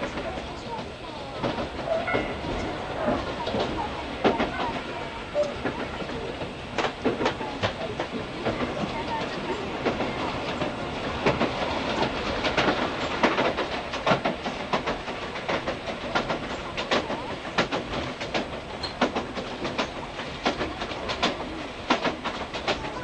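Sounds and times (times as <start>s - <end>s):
train running rumble: 0.0s - 23.0s
wheels clicking over rail joints: 0.0s - 23.0s.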